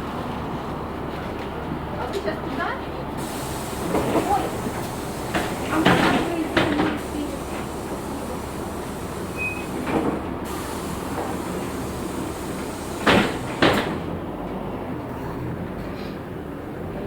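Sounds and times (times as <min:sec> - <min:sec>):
bus running and road noise: 0:00.0 - 0:17.0.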